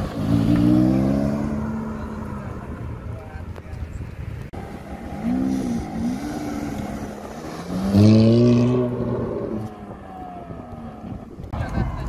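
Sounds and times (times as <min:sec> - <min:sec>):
car engine accelerating: 0:00.0 - 0:03.0, 0:04.6 - 0:11.6.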